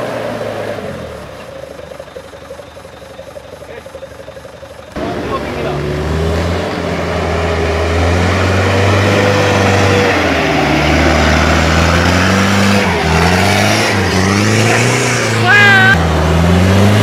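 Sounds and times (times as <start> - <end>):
wheels spinning in mud: 0.0 - 6.9, 7.6 - 17.0
diesel truck engine straining: 0.0 - 17.0.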